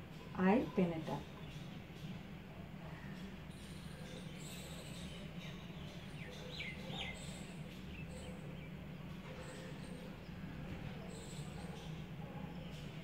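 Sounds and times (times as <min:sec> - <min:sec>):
faint bird chirps: 0:00.1 - 0:13.0.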